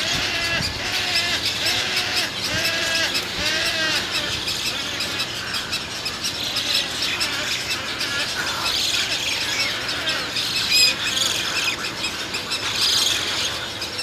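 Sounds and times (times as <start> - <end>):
chicks chattering: 0.0 - 14.0
spoonbill chicks squawking: 0.0 - 14.0.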